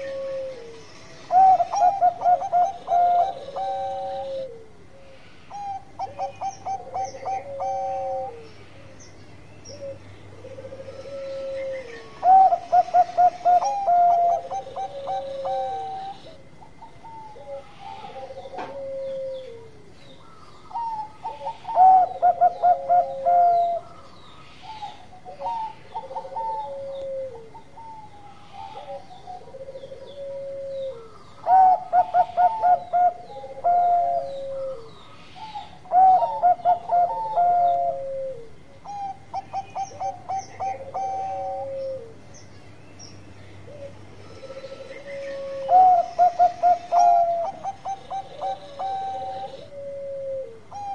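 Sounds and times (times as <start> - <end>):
dove cooing: 0.0 - 9.0, 9.7 - 42.4, 43.6 - 50.9.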